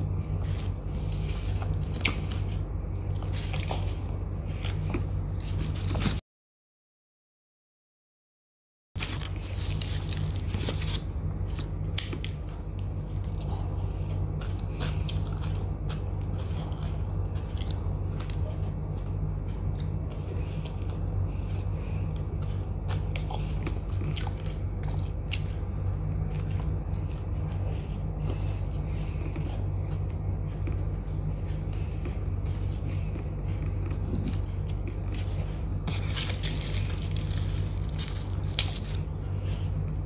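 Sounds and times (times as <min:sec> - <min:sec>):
steady low hum: 0:00.0 - 0:06.2, 0:09.0 - 0:40.0
eating with mouth clicks: 0:00.3 - 0:06.2, 0:09.1 - 0:40.0.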